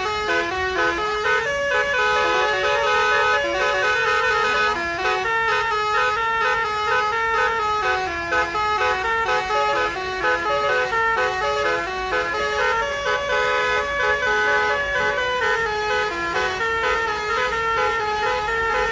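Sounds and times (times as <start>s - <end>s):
bus musical horn melody: 0.0s - 18.9s.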